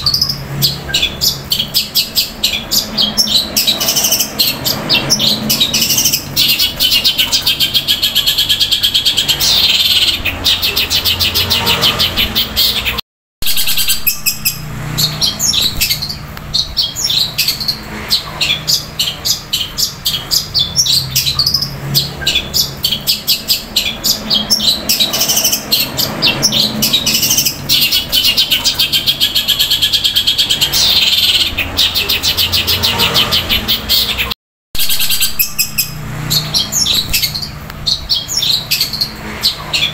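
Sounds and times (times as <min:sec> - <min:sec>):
bird singing fast rolling chatter: 0:00.0 - 0:39.9.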